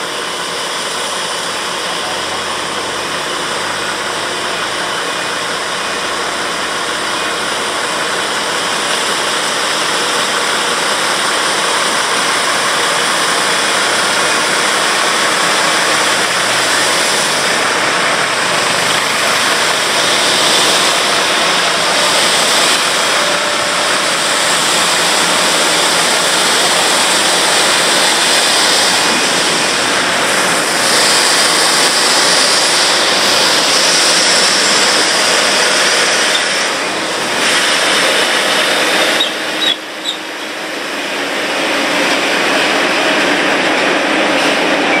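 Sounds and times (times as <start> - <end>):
chip spreader engine running: 0.0 - 45.0.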